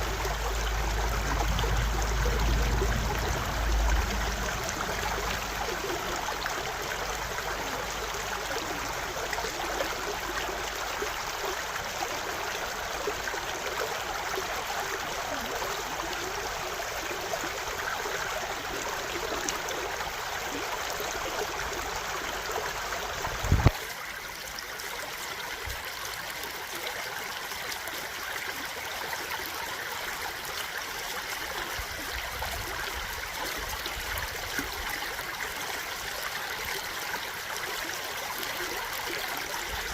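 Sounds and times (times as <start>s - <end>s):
water stream running: 0.0s - 39.9s.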